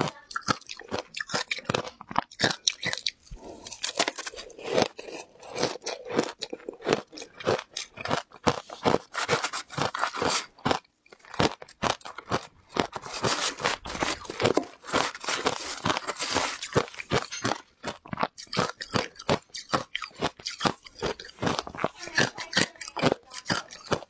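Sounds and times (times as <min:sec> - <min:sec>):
crunching and chewing shaved ice: 0:00.0 - 0:24.0.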